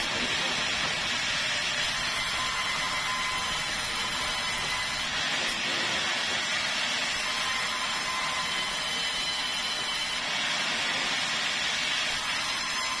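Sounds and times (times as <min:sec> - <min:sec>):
band saw cutting wood: 0:00.0 - 0:13.0.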